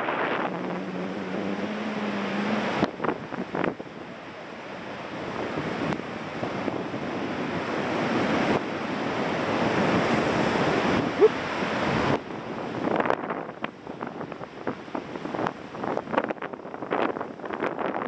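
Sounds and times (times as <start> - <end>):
surf rushing in: 0.0 - 18.0
wind buffeting microphone: 0.0 - 18.0.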